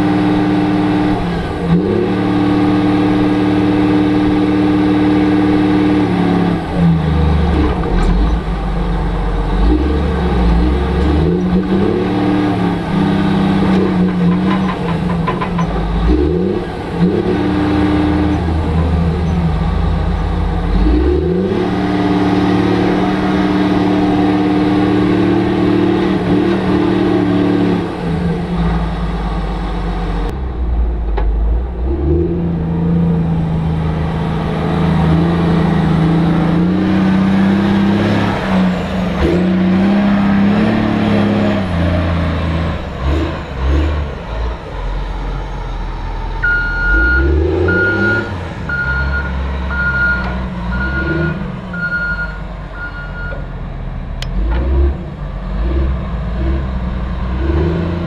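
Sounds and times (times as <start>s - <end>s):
wheel loader diesel engine revving: 0.0s - 58.0s.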